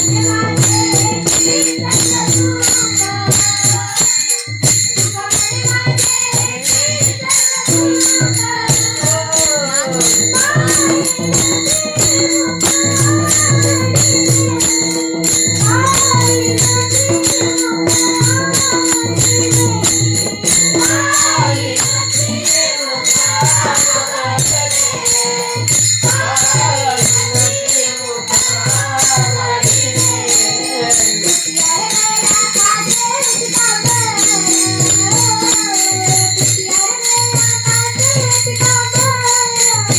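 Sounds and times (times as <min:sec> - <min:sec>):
rhythmic percussion: 0:00.0 - 0:39.9
woman singing devotional song: 0:00.0 - 0:39.9.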